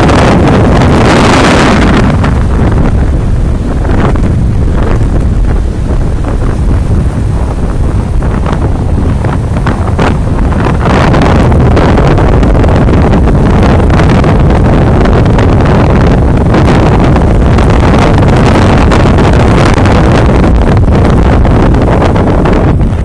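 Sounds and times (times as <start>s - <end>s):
rough surf: 0.0s - 23.0s
wind blasting microphone: 0.0s - 23.0s.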